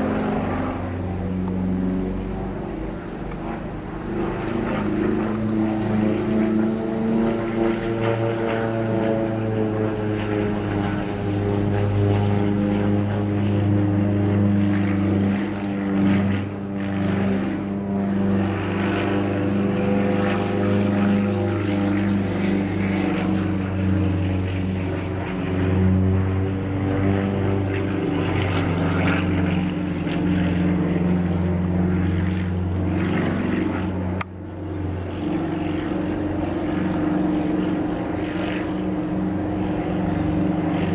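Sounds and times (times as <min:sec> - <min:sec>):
propeller airplane engine: 0:00.0 - 0:40.9.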